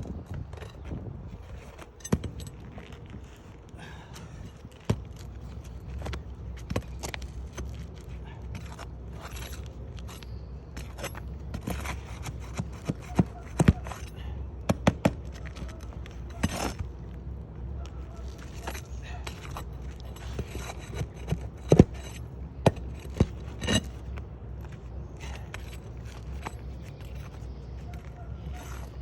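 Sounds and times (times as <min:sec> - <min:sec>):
objects scraping and knocking: 0:00.0 - 0:17.2, 0:17.8 - 0:29.0
low steady rumble: 0:00.0 - 0:29.0.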